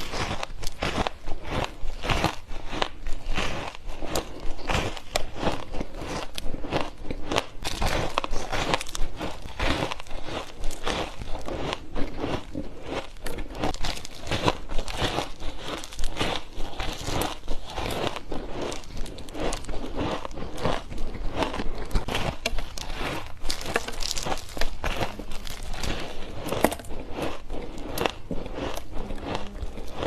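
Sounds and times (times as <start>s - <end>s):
shaved ice crunching: 0.0s - 30.0s.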